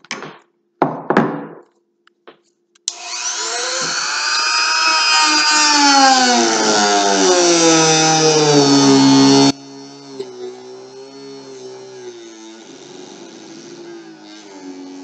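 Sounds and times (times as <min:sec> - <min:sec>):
power tool whine: 0:02.9 - 0:15.0.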